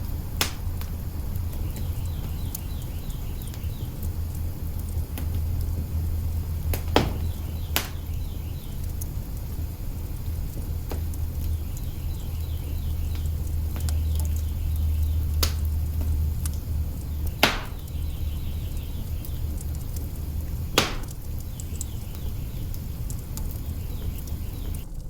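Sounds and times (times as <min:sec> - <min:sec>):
fire sharp pops: 0:00.0 - 0:25.0
wood fire crackling: 0:00.0 - 0:25.0.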